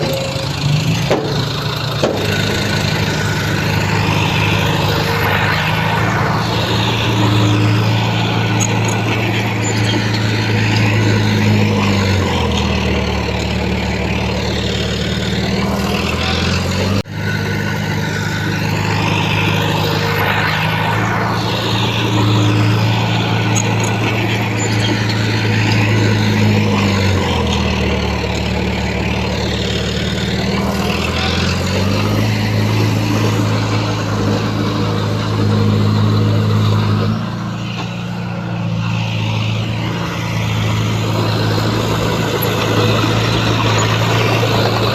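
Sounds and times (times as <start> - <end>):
heavy diesel machinery engine: 0.0 - 44.9.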